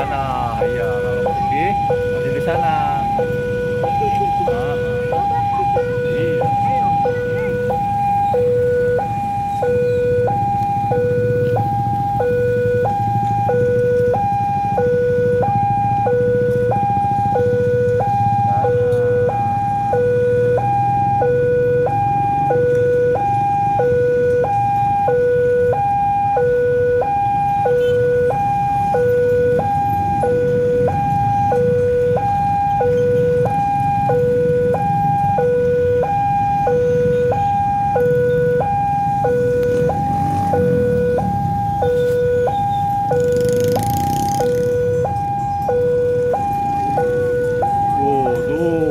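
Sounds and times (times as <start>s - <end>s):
level crossing two-tone alarm: 0.0s - 48.9s.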